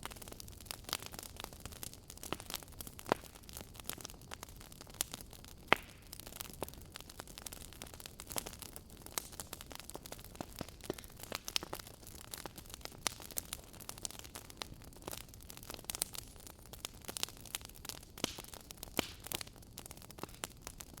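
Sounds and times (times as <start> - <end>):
fireplace crackling: 0.0 - 21.0.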